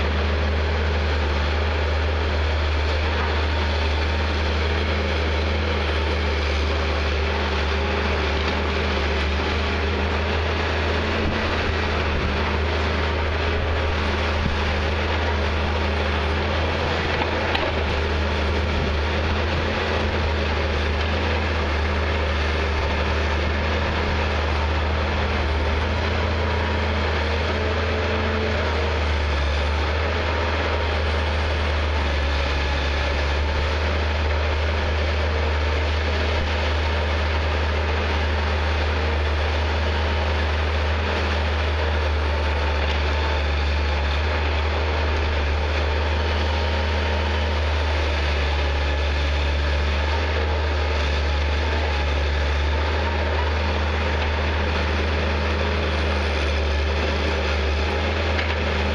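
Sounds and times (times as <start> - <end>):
diesel engine humming: 0.0 - 58.9.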